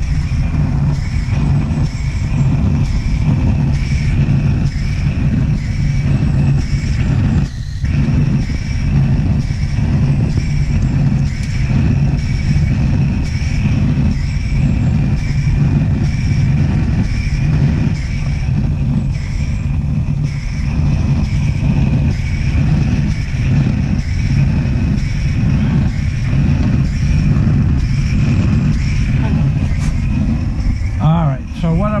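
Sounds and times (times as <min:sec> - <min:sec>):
blowtorch flame rushing: 0:00.0 - 0:32.0.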